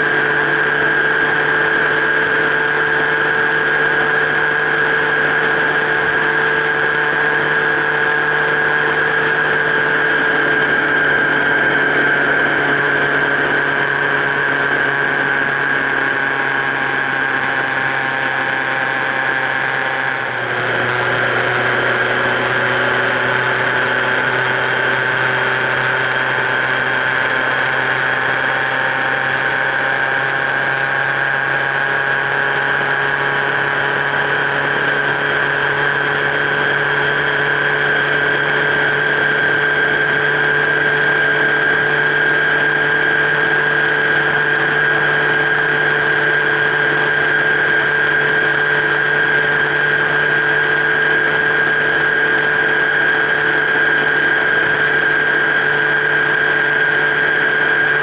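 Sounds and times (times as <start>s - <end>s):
high steady whine: 0.0s - 58.0s
motorcycle engine running: 0.0s - 58.0s.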